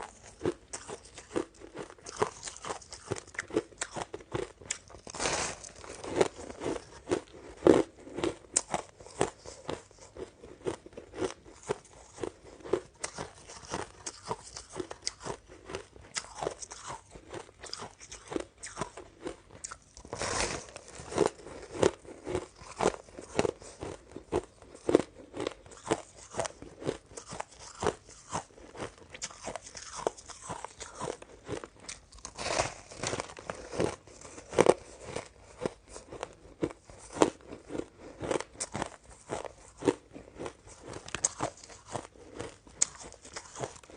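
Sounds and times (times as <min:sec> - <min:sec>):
chewing shaved ice: 0:00.0 - 0:43.9.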